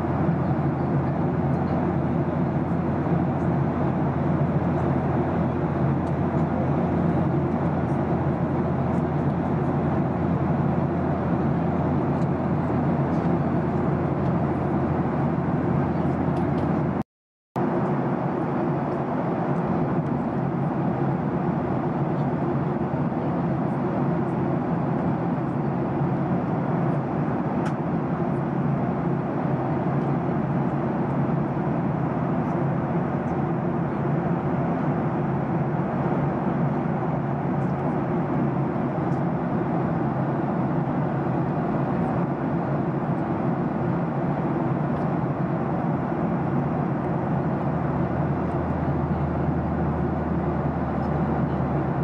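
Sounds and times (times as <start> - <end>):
jet engines and airflow in cabin: 0.0 - 52.0.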